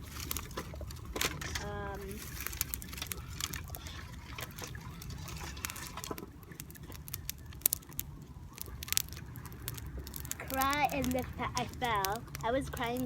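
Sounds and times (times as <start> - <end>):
campfire wood crackling and popping: 0.0 - 13.0.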